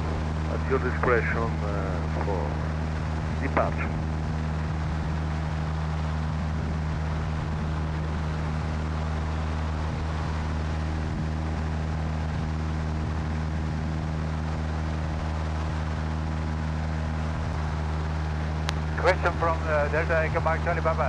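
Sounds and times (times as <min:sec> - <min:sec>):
light aircraft engine droning: 0:00.0 - 0:21.0.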